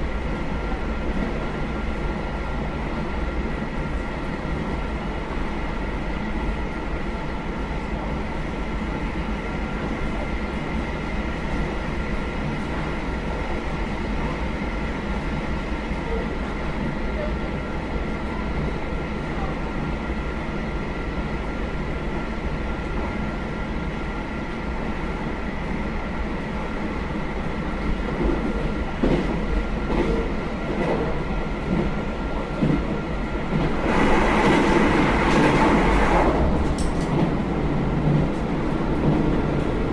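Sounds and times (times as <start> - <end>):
diesel railcar rumble and whine: 0.0 - 39.9.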